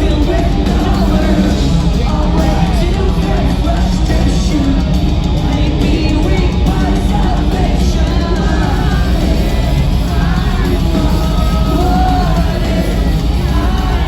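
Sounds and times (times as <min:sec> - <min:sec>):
distorted guitars: 0:00.0 - 0:14.0
drums: 0:00.0 - 0:14.0
person singing: 0:00.0 - 0:14.0.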